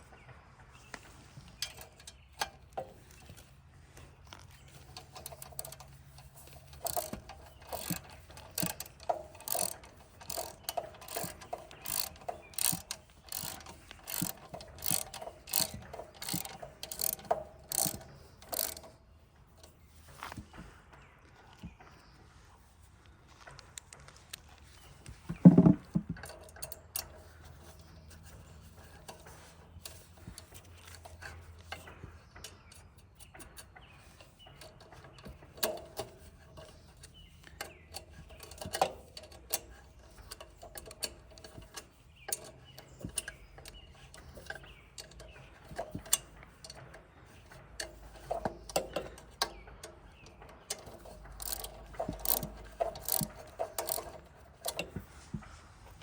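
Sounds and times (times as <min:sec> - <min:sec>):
small parts and hand tools clinking: 0:00.8 - 0:20.8, 0:23.0 - 0:56.0.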